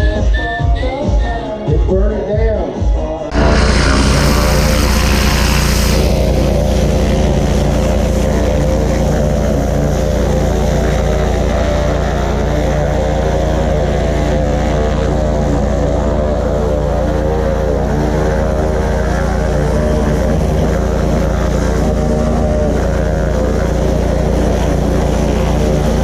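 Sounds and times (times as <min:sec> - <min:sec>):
motor droning: 0:03.3 - 0:26.0.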